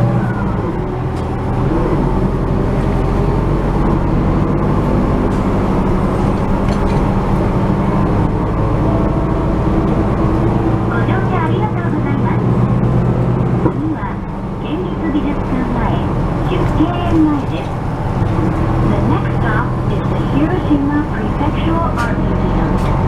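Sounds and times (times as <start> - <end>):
bus engine drone: 0.0 - 23.0
road and tyre noise: 0.0 - 23.0.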